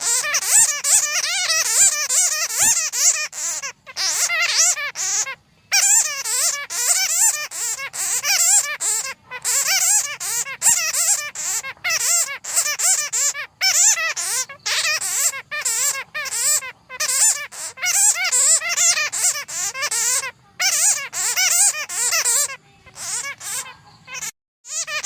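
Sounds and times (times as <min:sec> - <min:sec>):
bats squeaking and chattering: 0:00.0 - 0:25.0.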